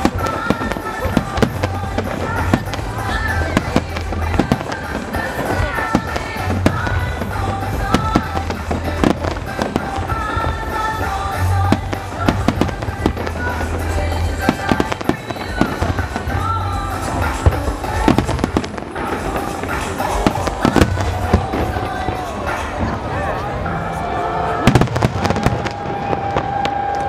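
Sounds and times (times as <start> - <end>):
loud music: 0.0 - 26.8
fireworks banging and crackling: 0.0 - 27.0.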